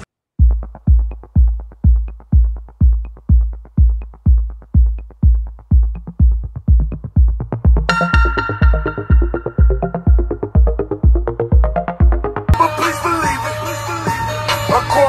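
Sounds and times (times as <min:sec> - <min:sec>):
heavy kick drum: 0:00.4 - 0:12.6
electronic music: 0:00.5 - 0:15.0.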